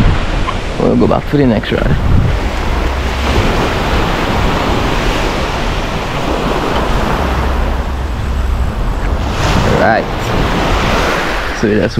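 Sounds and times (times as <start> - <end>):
small waves breaking on sand: 0.0 - 11.9
wind rumble on microphone: 0.0 - 11.9.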